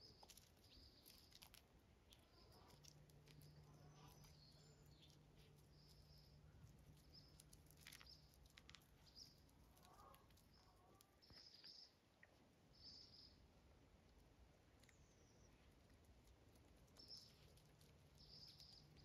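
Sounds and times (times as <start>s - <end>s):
small bird chirps: 0.0s - 13.5s, 14.7s - 19.0s.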